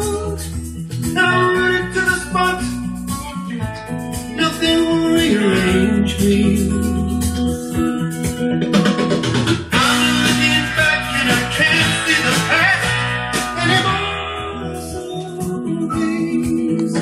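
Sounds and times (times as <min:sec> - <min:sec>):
song playing from vinyl record: 0:00.0 - 0:17.0.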